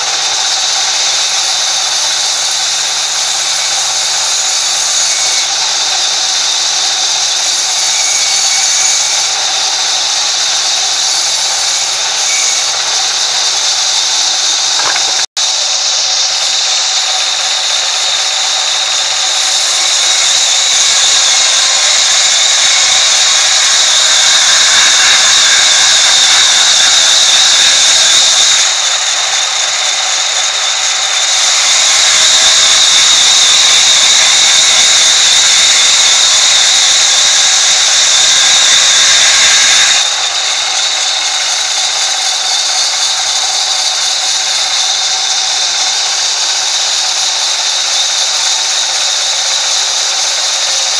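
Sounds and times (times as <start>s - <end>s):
band saw cutting log: 0.0s - 50.9s.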